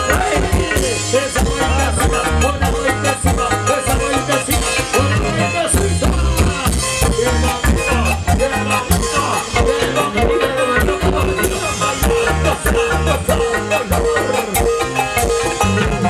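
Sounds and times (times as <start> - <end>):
folk band playing live: 0.0 - 16.0
pulsing bass beat: 0.0 - 16.0.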